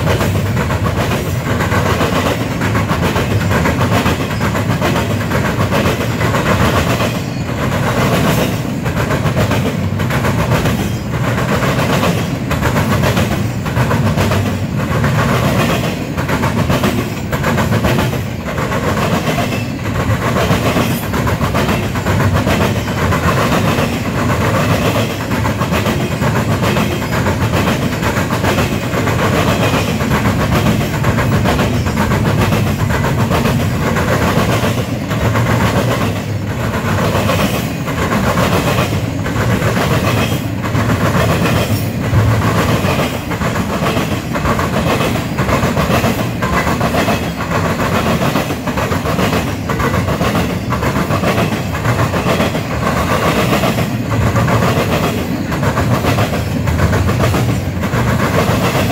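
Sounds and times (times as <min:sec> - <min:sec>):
freight train rumble: 0:00.0 - 0:58.9
wheels clacking over rail joints: 0:00.0 - 0:58.9.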